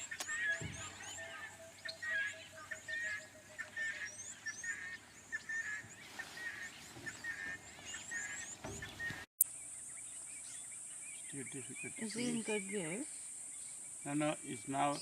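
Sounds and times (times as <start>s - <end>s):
birds chirping and warbling: 0.0s - 15.0s
low repeated bird notes: 0.0s - 15.0s.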